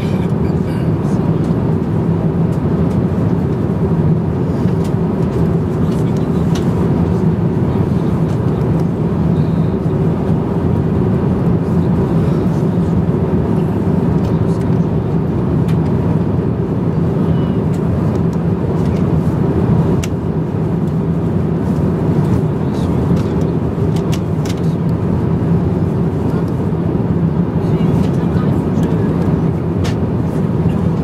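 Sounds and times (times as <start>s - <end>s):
airplane cabin rush: 0.0s - 31.0s.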